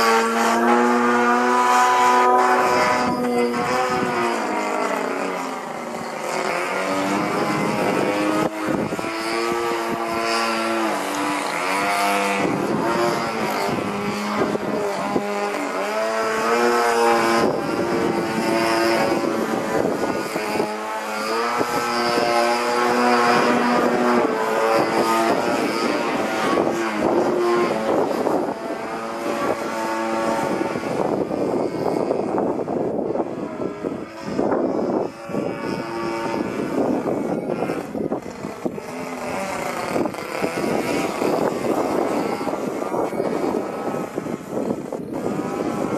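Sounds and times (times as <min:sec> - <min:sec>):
model airplane engine: 0:00.0 - 0:45.9.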